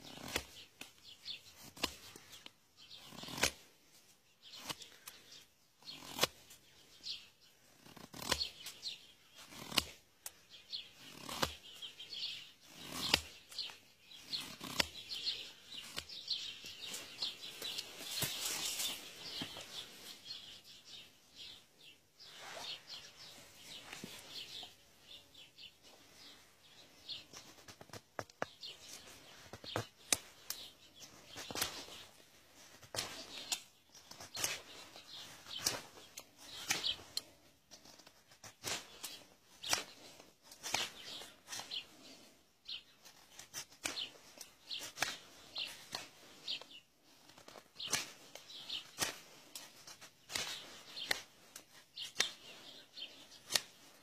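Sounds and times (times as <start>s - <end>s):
knife scraping wood: 0.0s - 0.7s, 1.4s - 3.7s, 4.4s - 20.0s, 27.2s - 42.2s, 42.8s - 54.0s.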